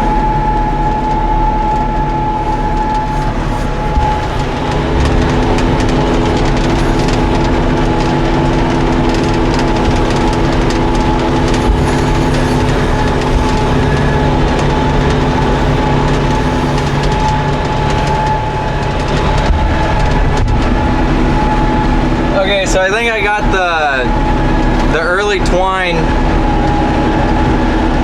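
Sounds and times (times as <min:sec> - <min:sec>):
tractor engine running: 0:00.0 - 0:28.0
baler mechanical rattle: 0:01.2 - 0:28.0.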